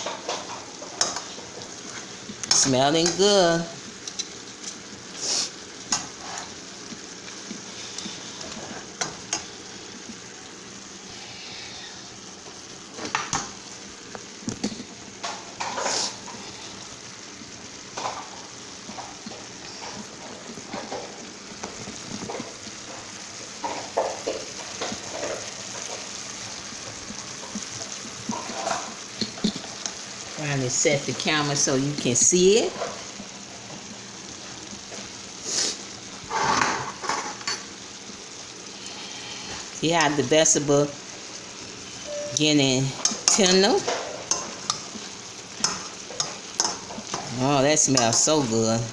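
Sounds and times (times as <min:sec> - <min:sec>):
food sizzling in a skillet: 0:00.0 - 0:48.9.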